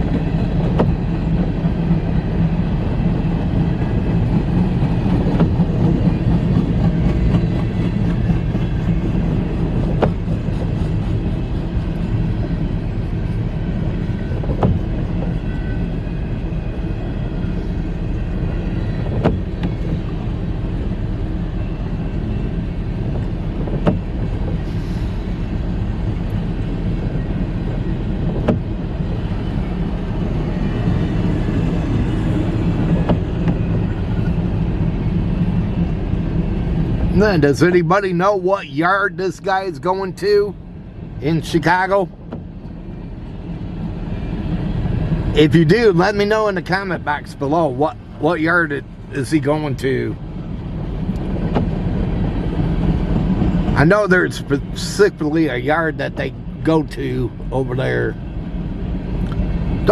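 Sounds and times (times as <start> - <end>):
freight cars rumbling past: 0.0 - 59.9.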